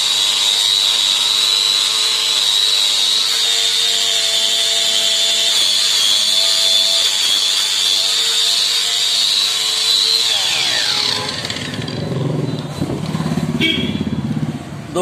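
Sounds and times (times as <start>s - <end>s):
rotary buffing tool whining: 0.0s - 12.9s
tool winding down: 0.0s - 13.1s.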